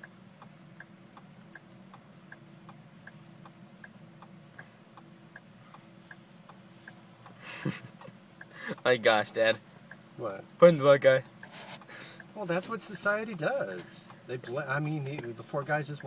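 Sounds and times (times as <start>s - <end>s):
turn signal ticking: 0.0s - 16.0s.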